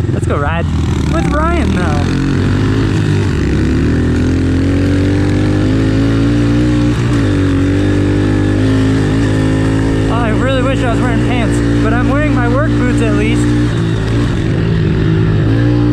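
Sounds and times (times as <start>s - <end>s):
motorbike engine revving: 0.0s - 15.9s.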